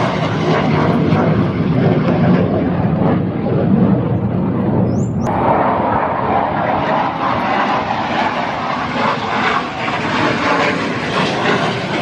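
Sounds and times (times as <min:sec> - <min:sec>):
jet aircraft passing overhead: 0:00.0 - 0:12.0.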